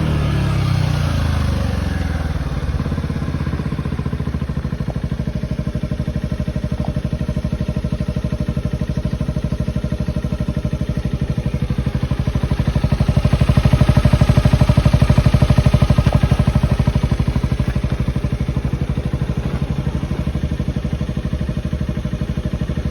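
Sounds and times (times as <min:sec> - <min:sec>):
scooter engine idling: 0:00.0 - 0:22.9.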